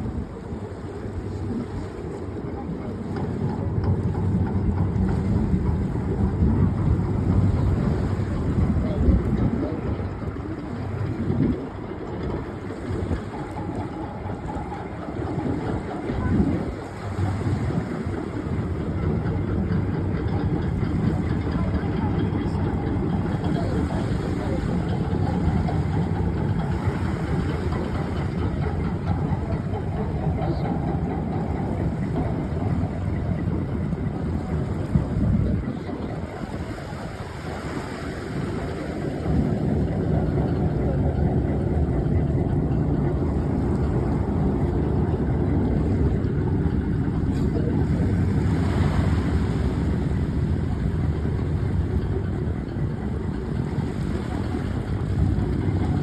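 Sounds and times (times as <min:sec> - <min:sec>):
ferry diesel engines droning: 0:00.0 - 0:56.0.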